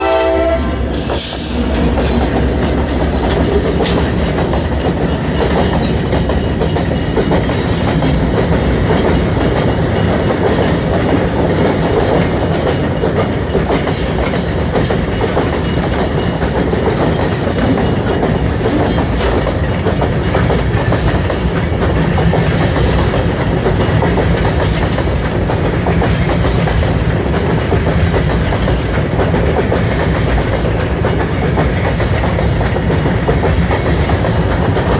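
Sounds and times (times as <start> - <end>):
train wheels clattering on rails: 0.0 - 34.9.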